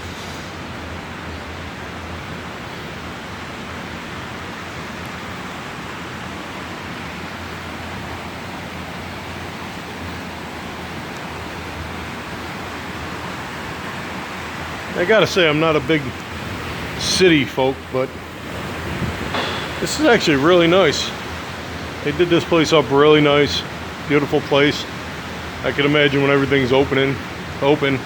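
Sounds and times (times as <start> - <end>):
steady rushing noise: 2.2 - 28.0.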